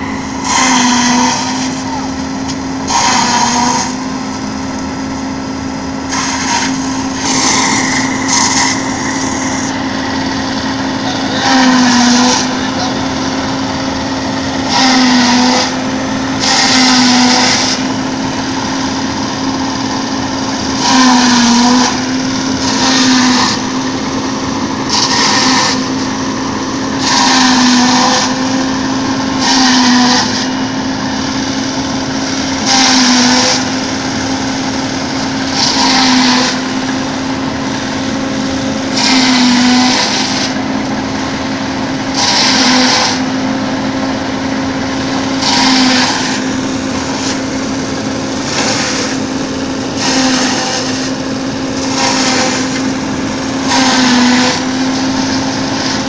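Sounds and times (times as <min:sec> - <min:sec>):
fodder chopper machine hum: 0:00.0 - 0:56.0.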